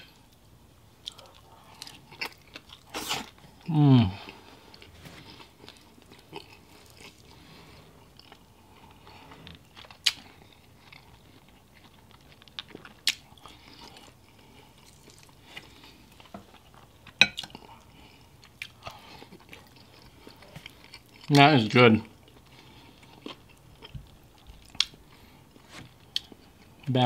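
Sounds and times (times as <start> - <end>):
close-up chewing: 1.0 - 21.4, 22.1 - 26.9.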